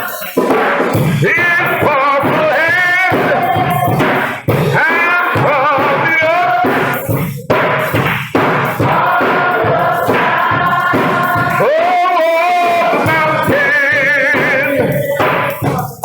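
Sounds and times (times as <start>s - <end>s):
choir singing gospel song: 0.0s - 16.0s
musical accompaniment: 0.0s - 16.0s.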